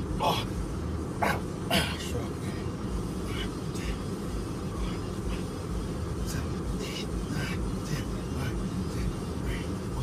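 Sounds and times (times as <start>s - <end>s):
low rumble in truck cab: 0.0s - 10.0s.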